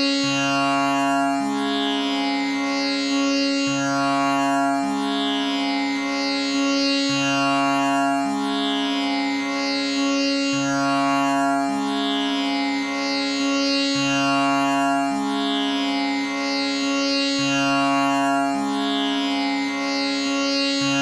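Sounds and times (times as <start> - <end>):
tanpura drone: 0.0 - 21.0.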